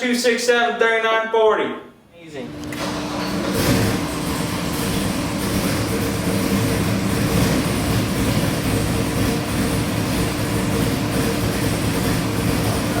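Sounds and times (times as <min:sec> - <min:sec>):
engine running on dyno: 0:02.5 - 0:13.0.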